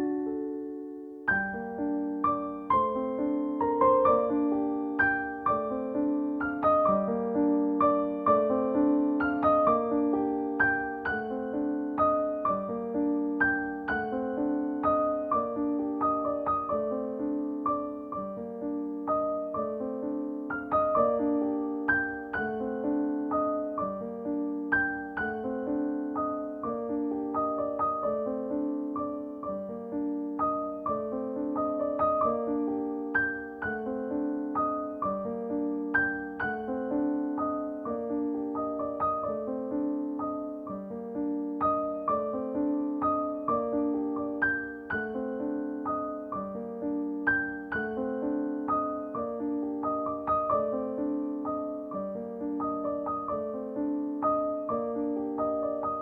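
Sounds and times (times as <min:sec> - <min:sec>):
gentle piano tune: 0:00.0 - 0:56.0.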